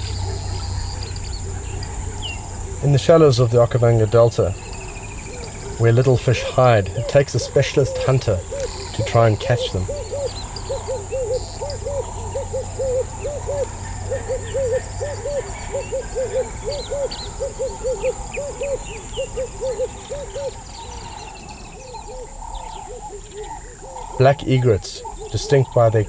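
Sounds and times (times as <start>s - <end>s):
high insect whine: 0.0s - 26.0s
low hooting call: 0.0s - 26.0s
small bird chirps: 0.0s - 26.0s.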